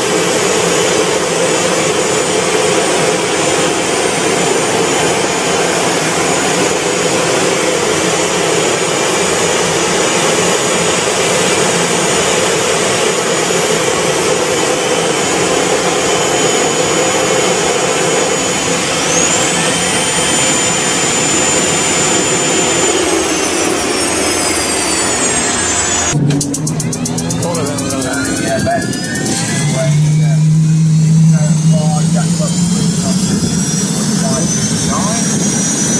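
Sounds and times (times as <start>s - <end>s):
jet turbine engine whining: 0.0s - 35.9s.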